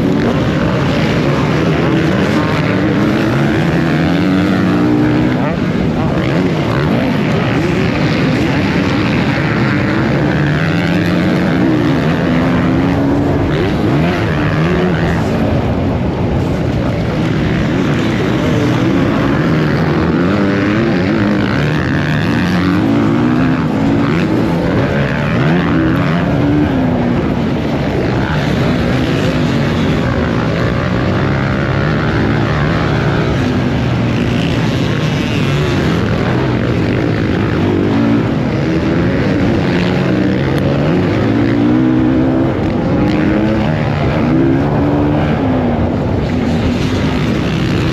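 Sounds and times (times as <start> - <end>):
motocross bike engines revving: 0.0 - 47.9.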